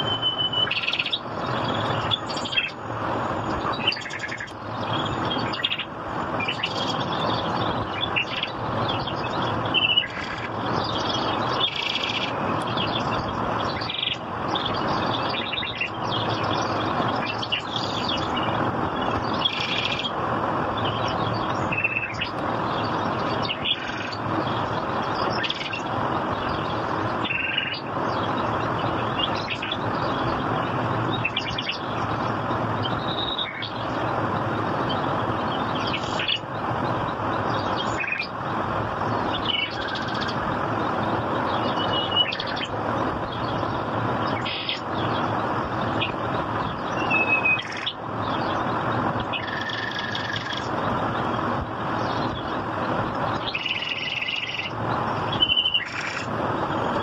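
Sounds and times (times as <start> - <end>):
birds chirping: 0.0 - 57.0
steady rushing noise: 0.0 - 57.0.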